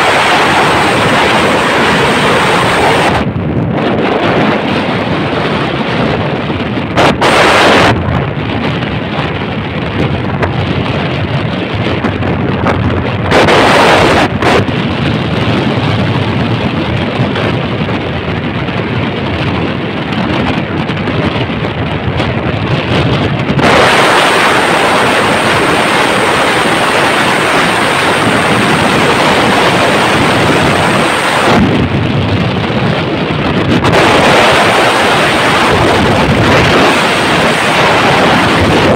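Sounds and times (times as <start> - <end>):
road and engine rumble: 0.0 - 38.9
wind blasting over microphone: 0.0 - 38.9.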